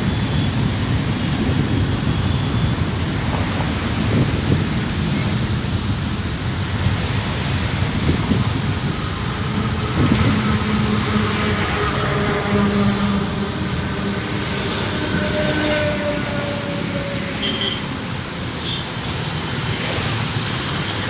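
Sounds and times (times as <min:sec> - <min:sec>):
distant jet airliner roar: 0:00.0 - 0:21.0.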